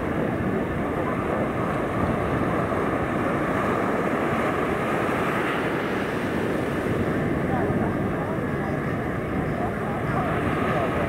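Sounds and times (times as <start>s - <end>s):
beach ambience rushing: 0.0s - 11.0s.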